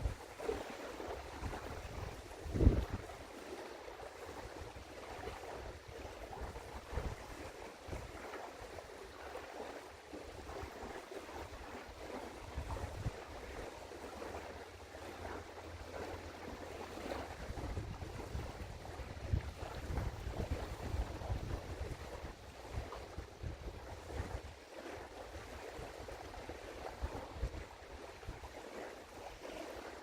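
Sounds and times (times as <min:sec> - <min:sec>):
wind buffeting microphone: 0:00.0 - 0:09.1, 0:10.3 - 0:14.6, 0:15.2 - 0:28.6.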